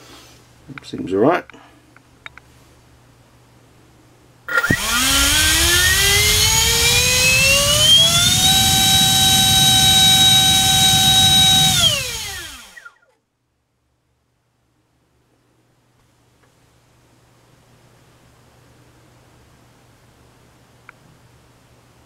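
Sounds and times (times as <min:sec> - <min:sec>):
electric ducted fan whine: 0:00.0 - 0:22.0.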